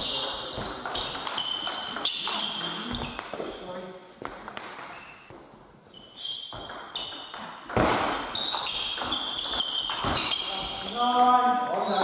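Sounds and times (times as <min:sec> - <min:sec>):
shoes squeaking on floor: 0:00.0 - 0:12.0.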